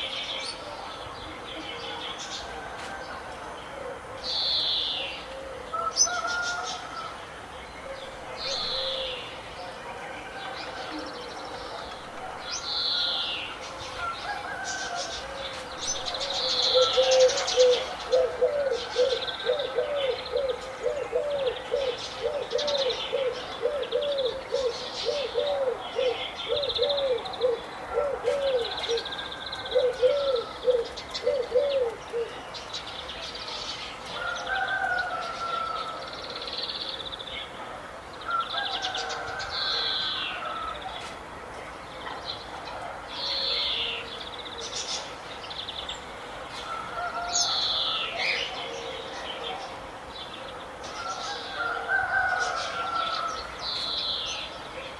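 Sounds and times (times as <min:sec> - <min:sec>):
birds chirping and twittering: 0:00.0 - 0:54.9.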